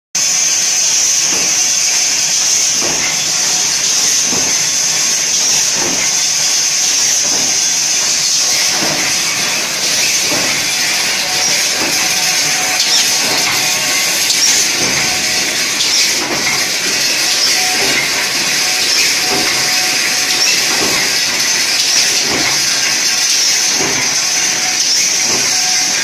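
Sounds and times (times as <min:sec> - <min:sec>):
machine stations stroking: 0:00.2 - 0:26.0
packing machine hissing: 0:00.2 - 0:26.0.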